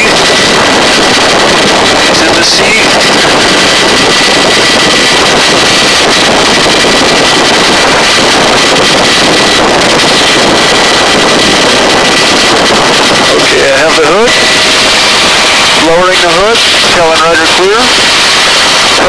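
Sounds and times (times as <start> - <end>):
helicopter hovering: 0.0 - 19.0
rushing wind: 0.0 - 19.0
thin steady whine: 0.0 - 19.0.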